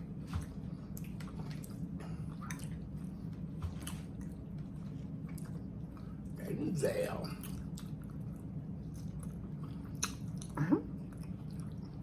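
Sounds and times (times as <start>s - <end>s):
wet chewing and mouth sounds: 0.0s - 12.0s.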